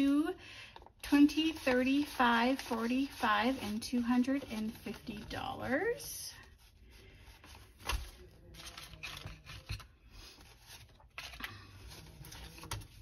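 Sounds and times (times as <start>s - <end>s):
banknotes rustling and flicking: 0.0s - 13.0s.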